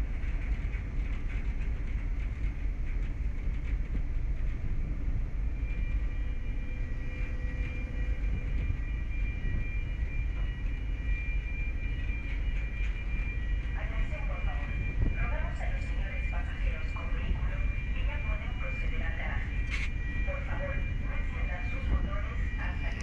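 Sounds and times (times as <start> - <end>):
ship engines rumbling: 4.0 - 23.0
faint high whine: 4.2 - 23.0.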